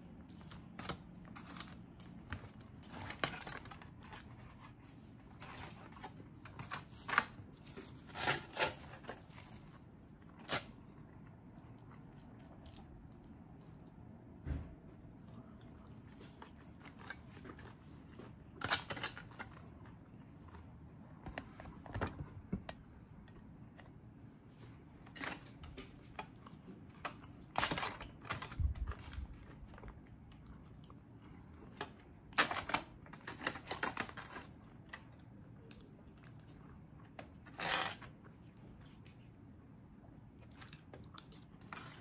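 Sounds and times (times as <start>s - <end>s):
chewing lobster: 0.1s - 21.8s, 22.8s - 42.0s.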